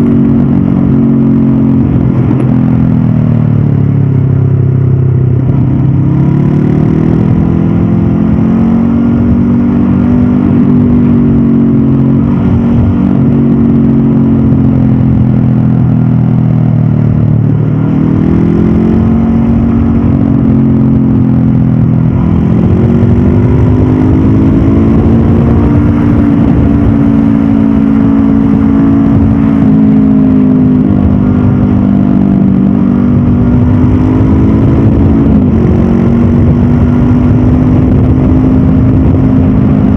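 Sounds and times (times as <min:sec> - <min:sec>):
wind rush: 0:00.0 - 0:16.2, 0:17.1 - 0:39.9
motorcycle engine revving: 0:00.0 - 0:39.9.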